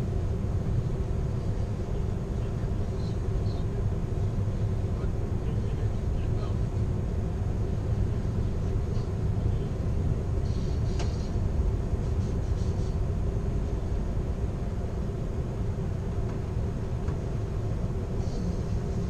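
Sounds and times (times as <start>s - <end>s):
train car rumbling over rails: 0.0s - 19.0s.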